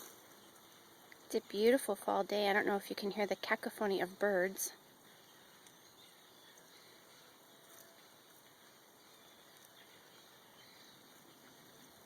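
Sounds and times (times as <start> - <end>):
wild birds calling: 0.0 - 1.7, 3.3 - 12.0
steady low hiss: 0.0 - 12.0.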